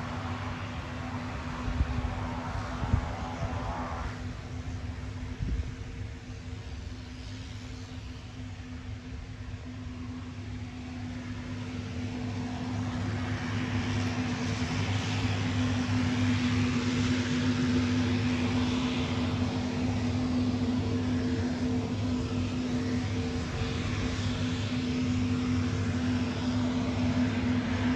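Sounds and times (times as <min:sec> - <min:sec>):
turboprop engines droning: 0:00.0 - 0:27.9.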